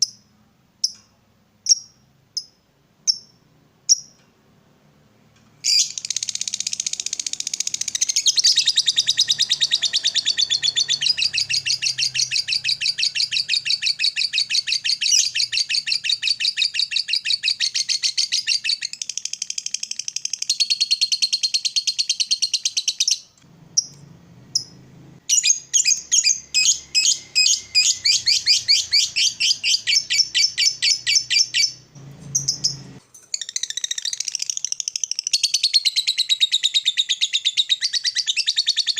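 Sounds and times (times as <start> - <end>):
lovebird chattering: 5.6 - 38.9.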